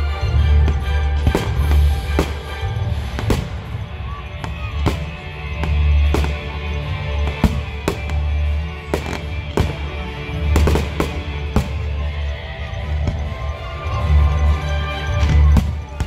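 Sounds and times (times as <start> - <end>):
fireworks bursting: 0.6 - 13.9.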